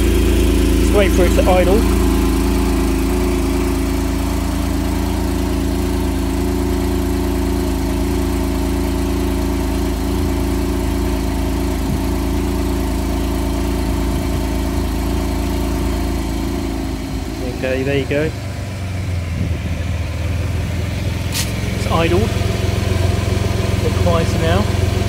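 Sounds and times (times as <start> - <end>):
car engine fast idle: 0.0 - 25.0.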